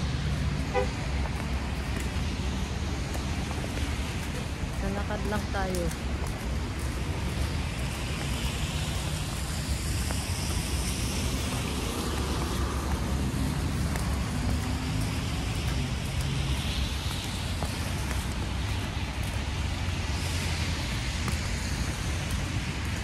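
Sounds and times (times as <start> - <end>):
low traffic rumble: 0.0 - 23.0
tyres hissing on wet road: 0.0 - 23.0.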